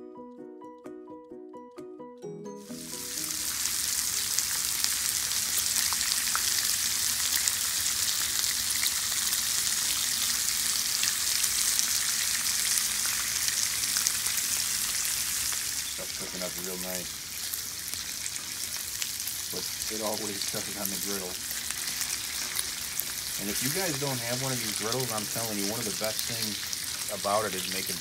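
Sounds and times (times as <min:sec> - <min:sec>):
bacon sizzling on a griddle: 0:02.7 - 0:28.0.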